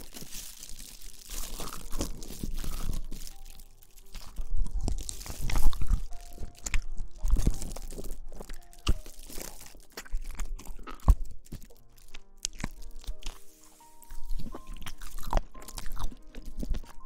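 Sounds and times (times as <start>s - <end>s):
crunchy rustling on microphone: 0.0s - 17.0s.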